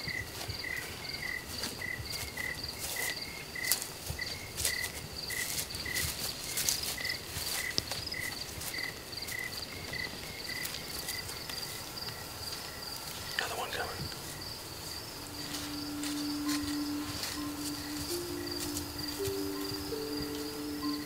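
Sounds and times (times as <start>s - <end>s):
crickets chirping: 0.0s - 21.0s
dry rustles and crackles: 0.0s - 21.0s.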